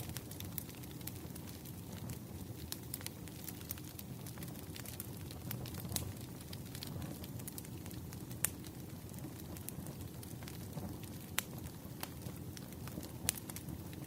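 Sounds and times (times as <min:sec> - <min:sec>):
sharp pops from fire: 0:00.0 - 0:14.0
wood fire crackling: 0:00.0 - 0:14.0.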